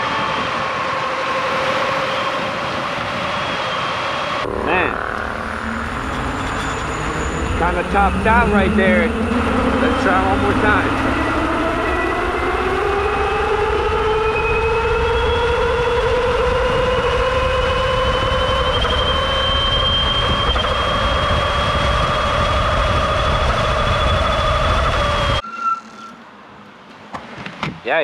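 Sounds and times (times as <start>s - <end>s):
wind rushing over microphone: 0.0s - 25.4s
electric bike motor whining: 0.1s - 26.2s.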